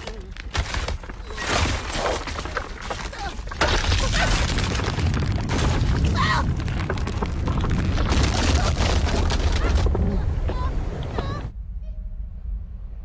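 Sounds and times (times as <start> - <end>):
ice cracking: 0.0 - 10.5.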